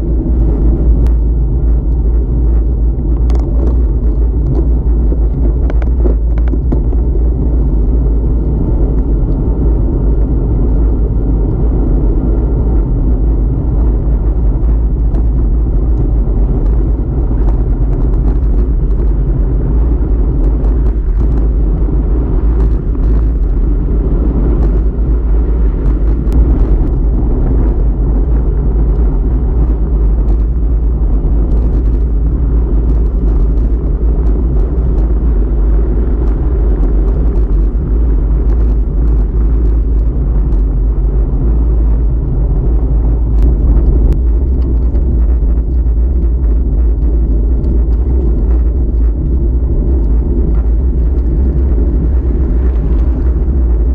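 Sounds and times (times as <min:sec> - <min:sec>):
wind and road rumble: 0:00.0 - 0:53.9.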